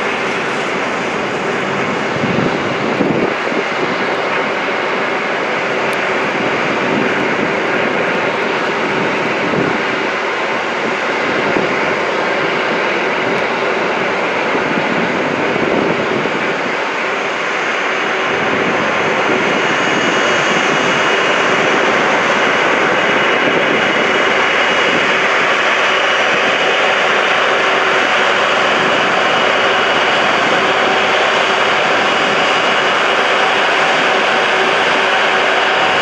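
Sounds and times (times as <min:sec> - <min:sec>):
high engine whine: 0:00.0 - 0:36.0
jet engines running: 0:00.0 - 0:36.0.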